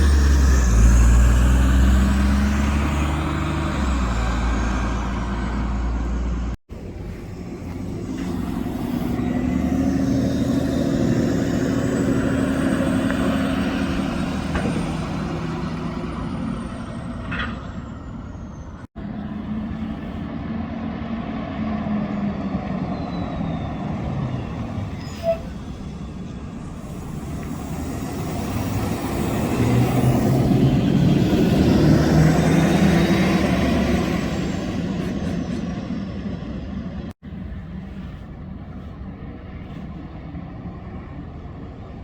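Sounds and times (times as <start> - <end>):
buses driving past: 0.0 - 42.0.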